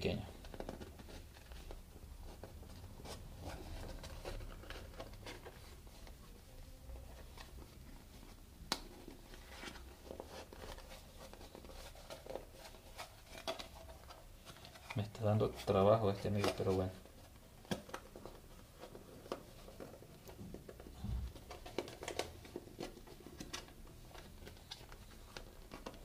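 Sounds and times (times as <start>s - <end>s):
rubber rubbing: 0.4s - 26.0s.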